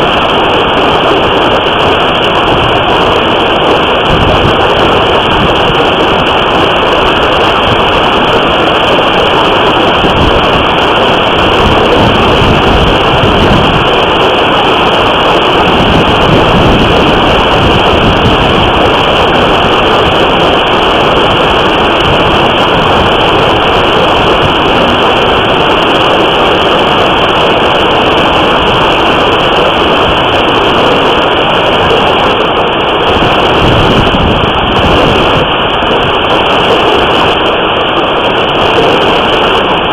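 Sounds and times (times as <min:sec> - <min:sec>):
hail and heavy rain pounding: 0:00.0 - 0:39.9.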